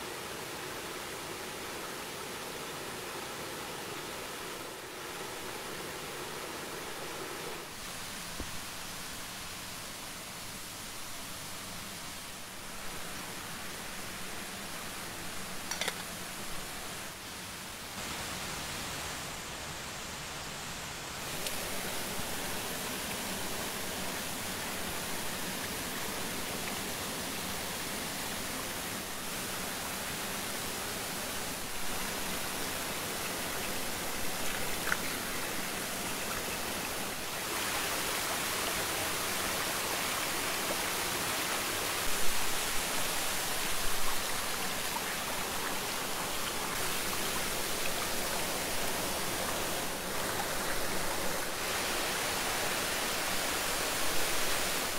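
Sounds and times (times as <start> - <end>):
water flowing over rocks: 0.0 - 20.3, 21.0 - 54.9.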